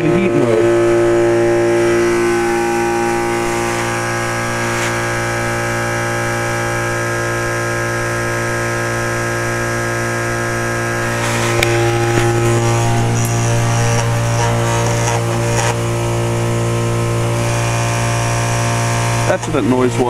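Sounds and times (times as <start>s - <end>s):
heat pump compressor humming: 0.0s - 20.0s.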